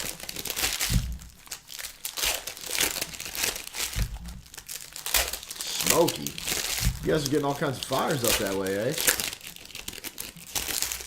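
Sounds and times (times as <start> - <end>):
cards rustling: 0.0 - 11.0
wrappers crinkling and tearing: 0.0 - 11.0.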